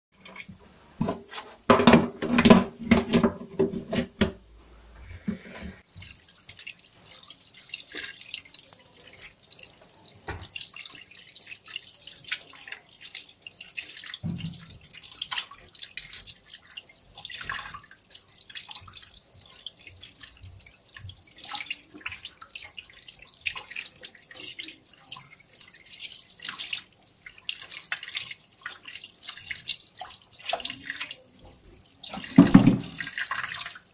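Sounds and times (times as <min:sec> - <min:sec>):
tap water running into sink: 0:00.2 - 0:04.4, 0:05.1 - 0:33.9
water dripping: 0:05.2 - 0:33.9.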